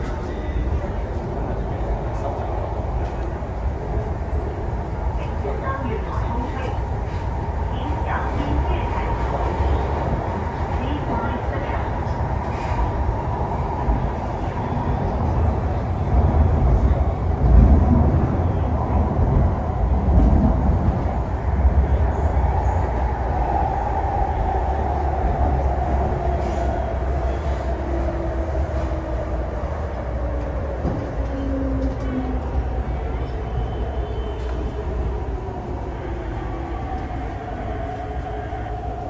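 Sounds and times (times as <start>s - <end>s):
electric train rumbling: 0.0s - 39.0s.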